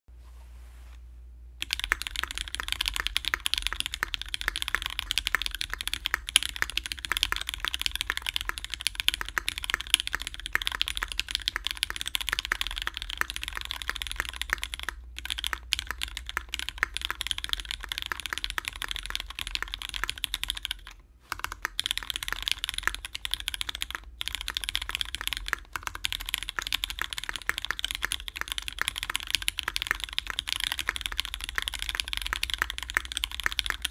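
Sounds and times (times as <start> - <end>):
mechanical keyboard typing: 1.6 - 33.9.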